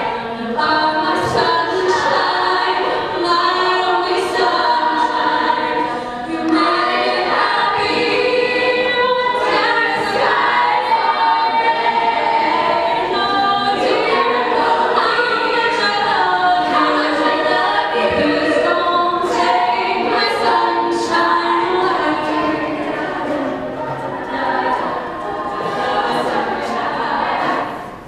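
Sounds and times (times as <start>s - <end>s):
group singing a cappella: 0.0s - 28.0s.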